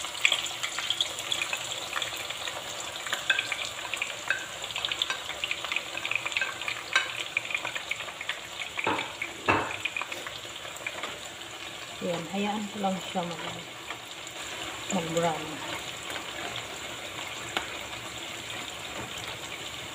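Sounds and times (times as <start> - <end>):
onions sizzling in oil: 0.0 - 19.9.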